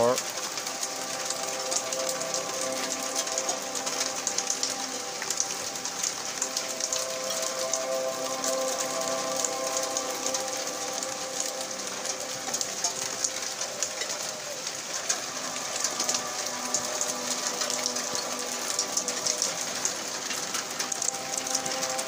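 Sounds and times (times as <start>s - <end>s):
rain and hail falling: 0.0s - 22.0s.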